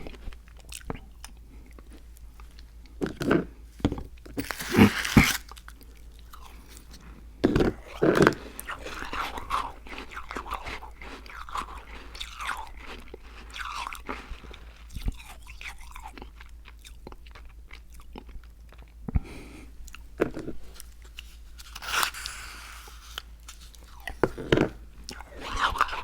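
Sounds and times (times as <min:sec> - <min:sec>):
crunchy cookies being chewed: 0:00.0 - 0:26.0.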